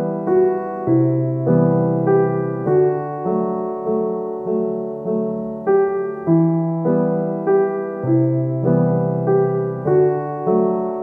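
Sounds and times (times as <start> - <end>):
gentle piano tune: 0.0 - 11.0.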